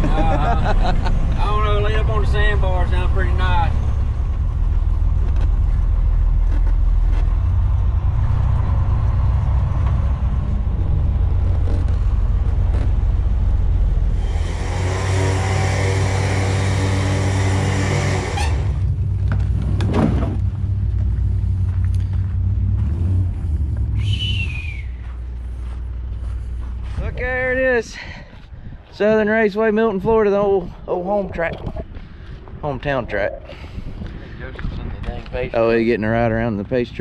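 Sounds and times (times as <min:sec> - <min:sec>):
truck engine and road noise: 0:00.0 - 0:37.0.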